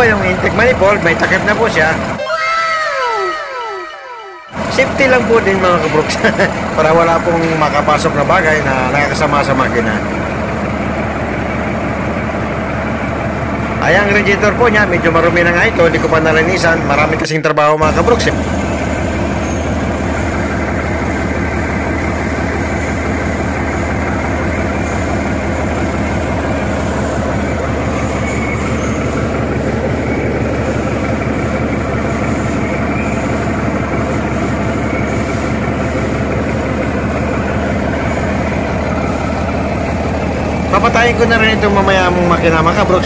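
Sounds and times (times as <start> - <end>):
truck diesel engine idling: 0.0 - 4.0, 4.6 - 17.2, 17.8 - 43.0.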